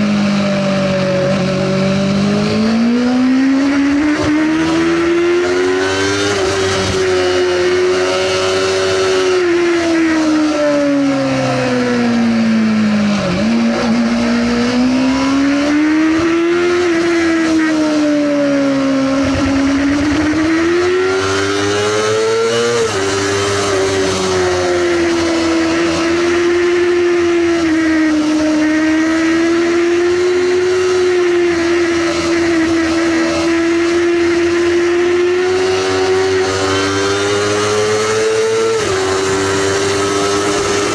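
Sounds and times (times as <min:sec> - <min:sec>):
motorcycle engine at high revs: 0:00.0 - 0:40.9.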